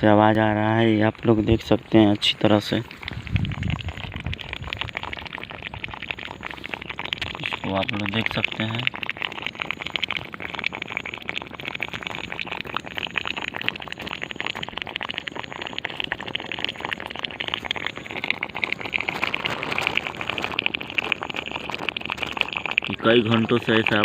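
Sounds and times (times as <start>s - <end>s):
dense crackling of rapid clicks: 0.0s - 24.0s.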